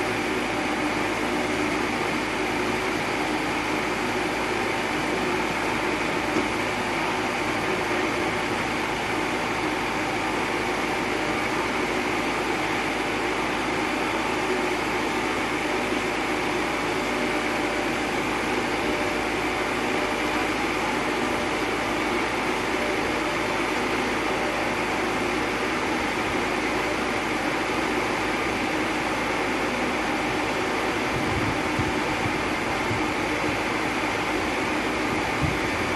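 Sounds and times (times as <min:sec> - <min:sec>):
auger drilling rig running: 0:00.0 - 0:35.9.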